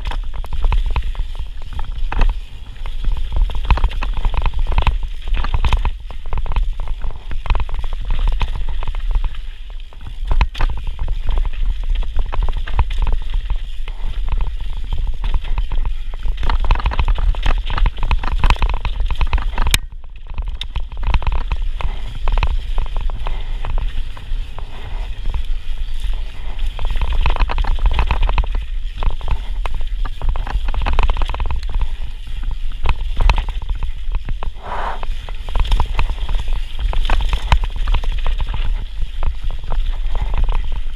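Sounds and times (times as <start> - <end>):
bike rattling and clattering: 0.0 - 40.9
tyres running over dirt: 0.0 - 40.9.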